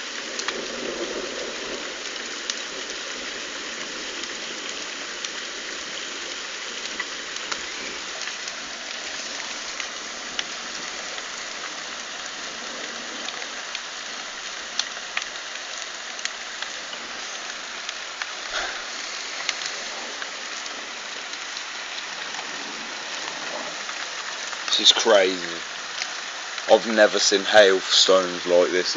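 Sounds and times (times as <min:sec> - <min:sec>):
hail and rain hiss: 0:00.0 - 0:28.9
hailstones ticking: 0:00.0 - 0:28.9.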